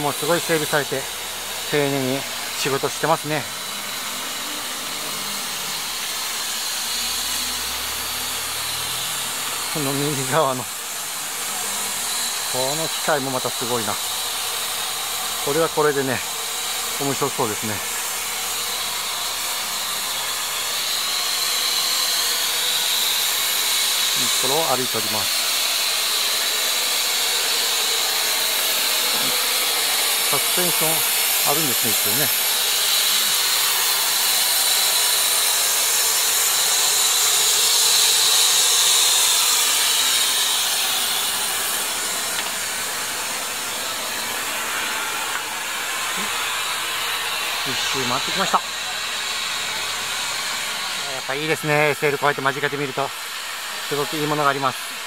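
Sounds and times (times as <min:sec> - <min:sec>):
steam hissing from locomotive: 0:00.0 - 0:55.0.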